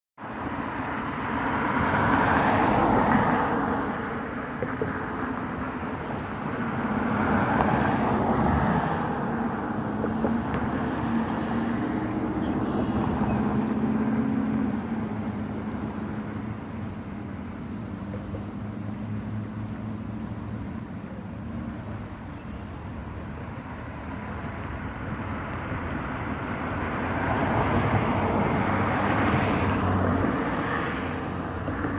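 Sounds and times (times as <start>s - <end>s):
low engine hum: 0.2s - 31.9s
road traffic passing: 0.2s - 31.9s.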